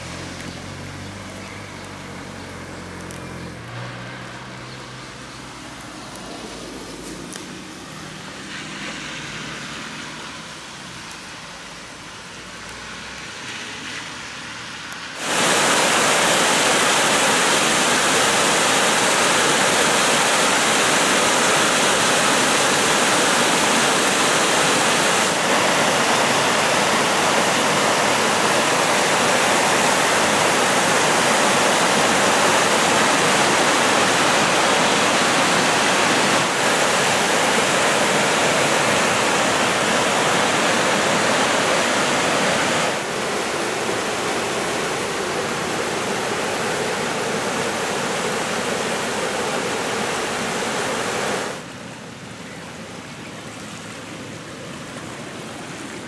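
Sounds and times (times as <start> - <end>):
river rushing over rapids: 0.0 - 56.0.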